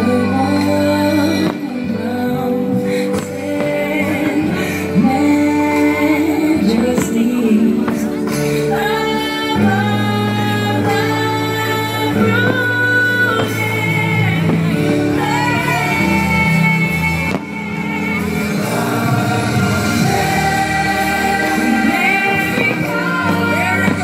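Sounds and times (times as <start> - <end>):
held instrumental chords: 0.0 - 24.0
person singing: 0.0 - 24.0.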